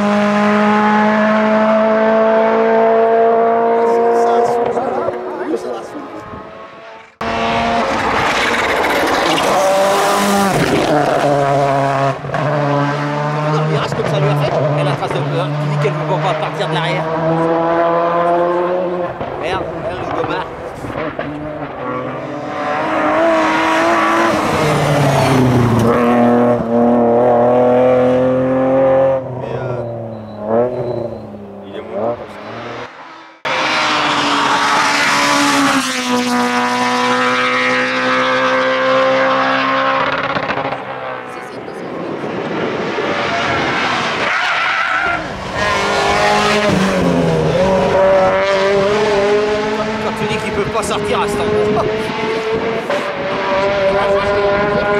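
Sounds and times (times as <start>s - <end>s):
rally car engine passing: 0.0s - 54.9s.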